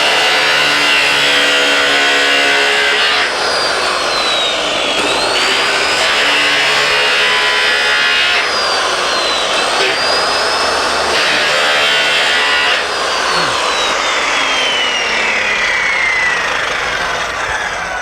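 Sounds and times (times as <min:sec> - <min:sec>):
power tool cutting sheet metal: 0:00.0 - 0:18.0.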